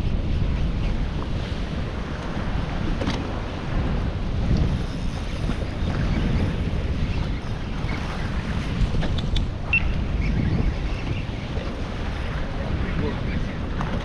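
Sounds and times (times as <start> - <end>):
choppy sea washing: 0.0 - 14.0
wind buffeting microphone: 0.0 - 14.0.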